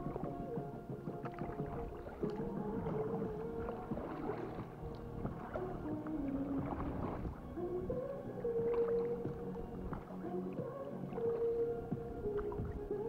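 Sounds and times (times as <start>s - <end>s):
music with long held notes: 0.0s - 13.0s.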